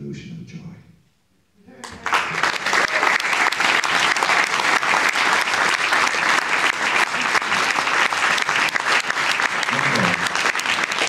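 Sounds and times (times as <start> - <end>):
audience applauding: 1.8 - 11.0.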